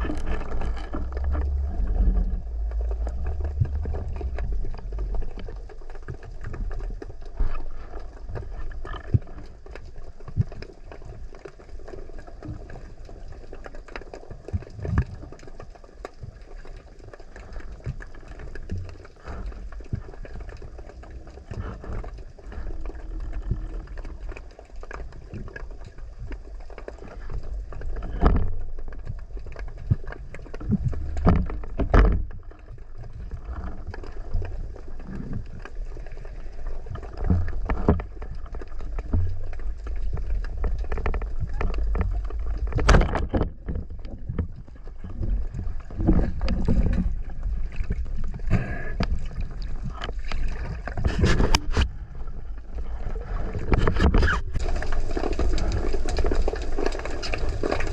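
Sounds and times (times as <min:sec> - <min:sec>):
underwater rumble of water: 0:00.0 - 0:57.9
water surges: 0:00.0 - 0:57.9.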